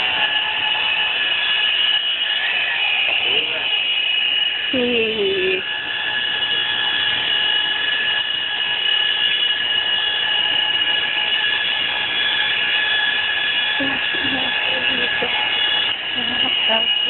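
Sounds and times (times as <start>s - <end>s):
machine motor whining: 0.0s - 17.0s.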